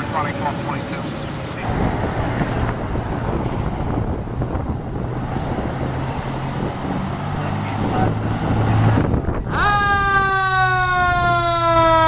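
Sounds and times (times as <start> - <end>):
diesel engine running: 0.0 - 12.0
wind buffeting microphone: 1.6 - 12.0.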